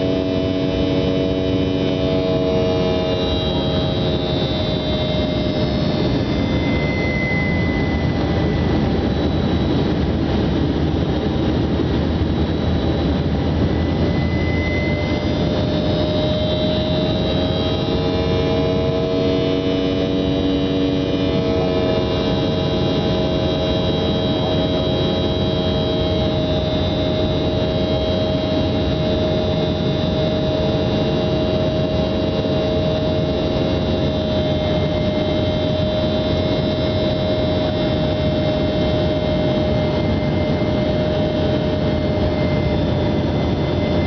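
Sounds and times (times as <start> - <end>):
aircraft engines droning: 0.0 - 44.0
whining tones: 0.0 - 44.0.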